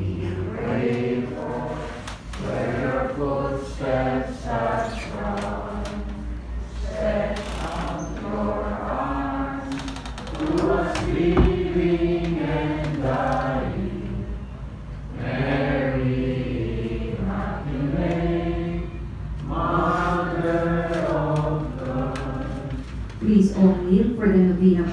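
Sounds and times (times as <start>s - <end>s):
voices chanting in unison: 0.0s - 14.4s, 15.1s - 22.9s.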